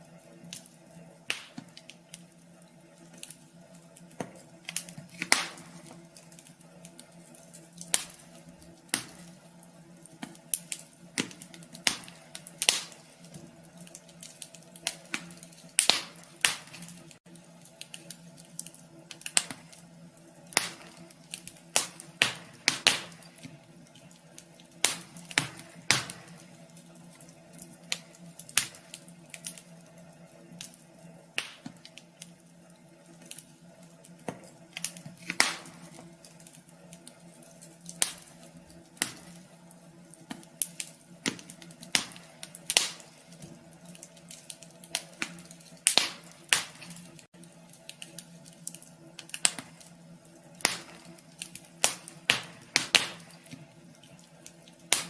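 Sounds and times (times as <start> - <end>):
steady low hum: 0.0 - 55.0
wood fire crackling in a stove: 0.0 - 55.0.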